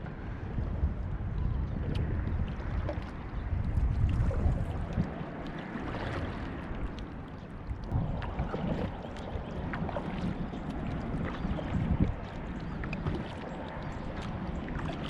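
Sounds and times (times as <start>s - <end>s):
water lapping and splashing: 0.0s - 15.0s
wind on microphone: 0.0s - 15.0s.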